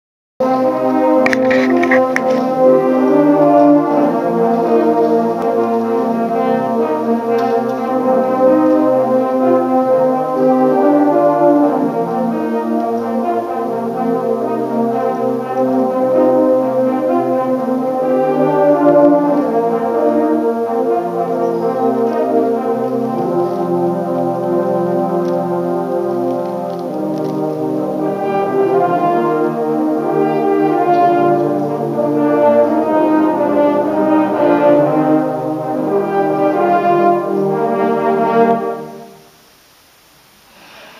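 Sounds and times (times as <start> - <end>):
brass ensemble playing slow chords: 0.4 - 39.5.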